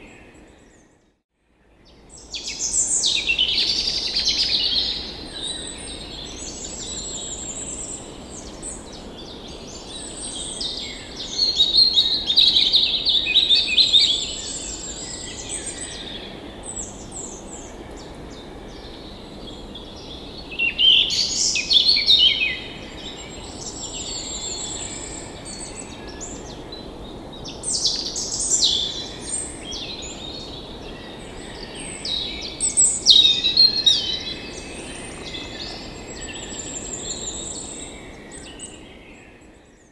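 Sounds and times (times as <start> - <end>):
songbirds singing: 1.7 - 39.9.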